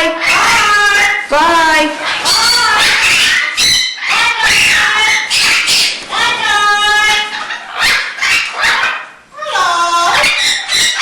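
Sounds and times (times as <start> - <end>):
parrots calling: 0.0 - 11.0.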